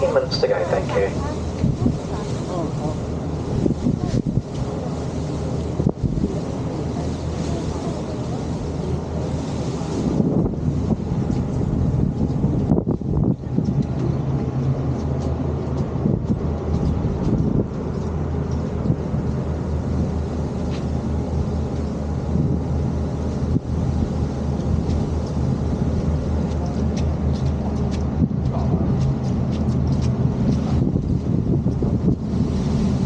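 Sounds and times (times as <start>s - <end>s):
boat engines droning: 0.0s - 33.0s
wind buffeting microphone: 0.0s - 33.0s.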